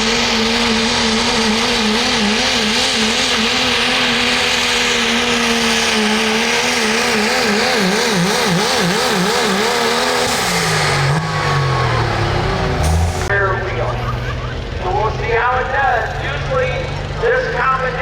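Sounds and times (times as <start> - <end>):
engine at full throttle: 0.0 - 18.0.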